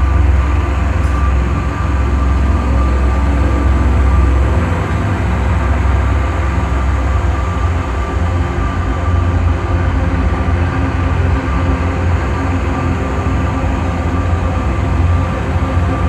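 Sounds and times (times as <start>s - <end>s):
drone music: 0.0s - 16.0s.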